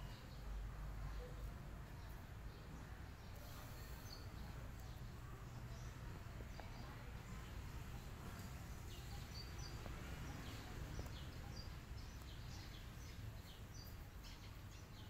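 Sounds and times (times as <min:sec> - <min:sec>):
faint low outdoor rumble: 0:00.0 - 0:15.0
small birds chirping: 0:00.0 - 0:15.0.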